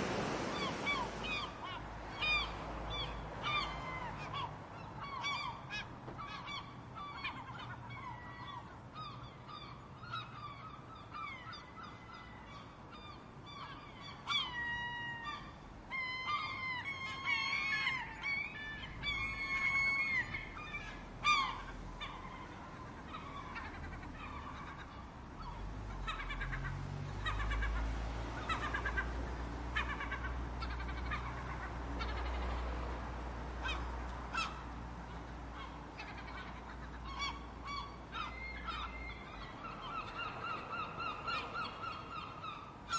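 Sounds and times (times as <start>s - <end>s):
seagulls calling: 0.0s - 33.0s, 33.6s - 42.9s.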